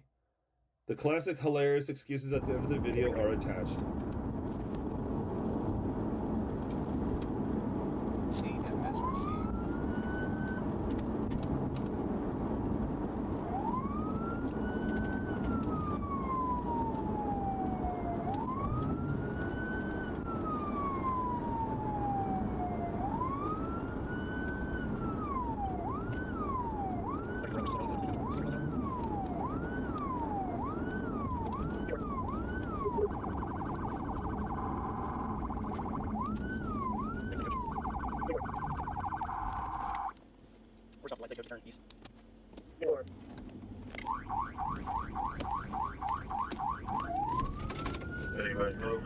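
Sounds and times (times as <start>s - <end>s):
engine and road noise: 2.3s - 49.0s
police siren: 2.5s - 3.9s, 5.4s - 40.2s, 43.9s - 49.0s.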